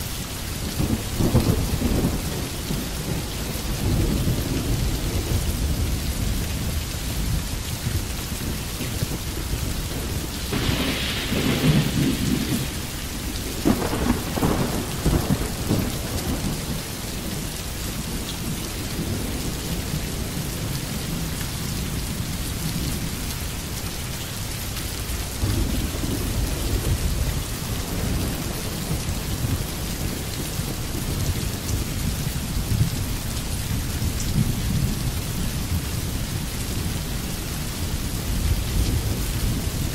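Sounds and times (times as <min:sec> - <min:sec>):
steady rain: 0:00.0 - 0:39.9
thunder rumbling: 0:00.7 - 0:22.9, 0:25.1 - 0:36.0.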